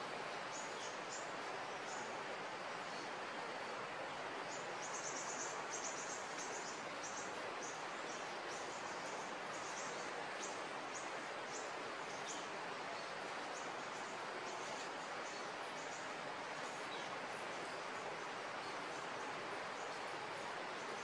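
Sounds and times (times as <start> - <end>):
steady forest hiss: 0.0 - 21.0.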